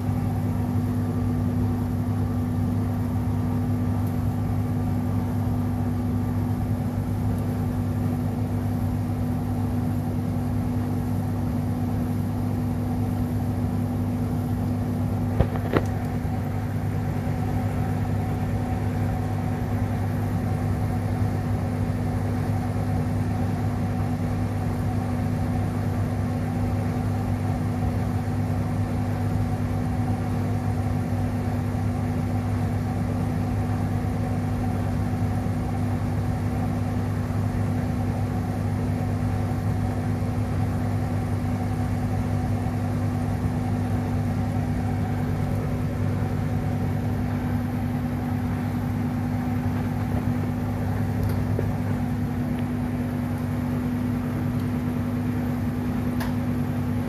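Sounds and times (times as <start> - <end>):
tumble dryer humming: 0.0 - 57.0.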